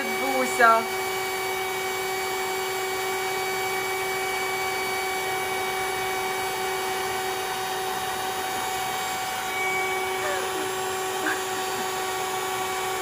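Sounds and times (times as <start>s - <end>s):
electric pump motor whining: 0.0s - 13.0s.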